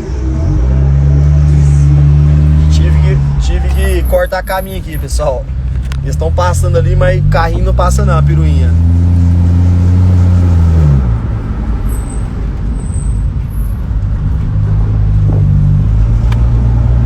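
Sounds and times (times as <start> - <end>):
truck engine drone: 0.0 - 17.0
tyre and road rumble: 0.0 - 17.0.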